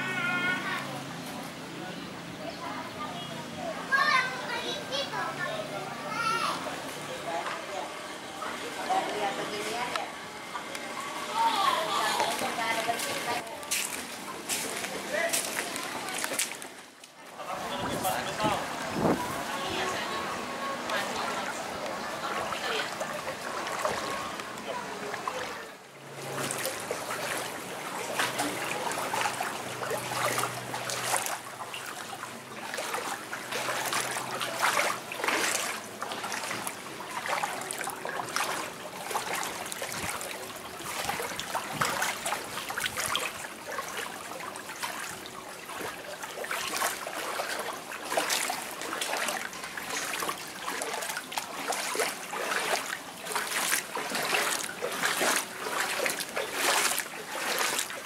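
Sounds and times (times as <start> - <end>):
footsteps wading through water: 11.5 - 58.0.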